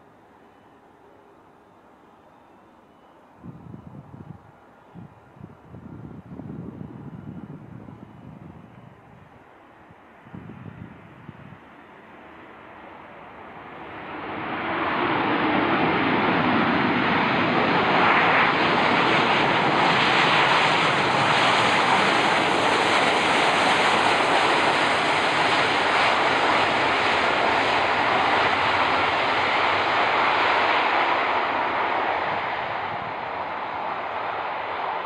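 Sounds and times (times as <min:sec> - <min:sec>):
jet engines of passing airliner: 0:00.0 - 0:35.0.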